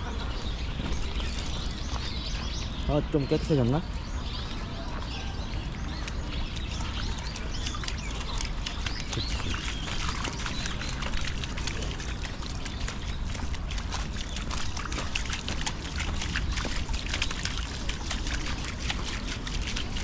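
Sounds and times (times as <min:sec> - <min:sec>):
paws splashing in stream: 0:00.0 - 0:20.0.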